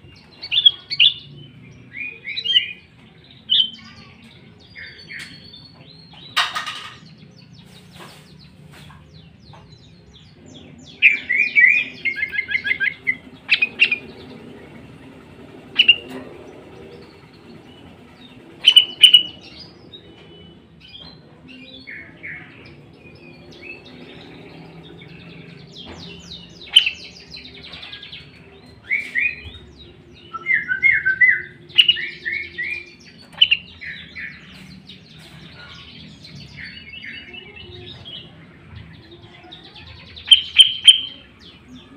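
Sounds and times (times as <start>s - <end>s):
bird chirping and calling: 0.0s - 41.9s.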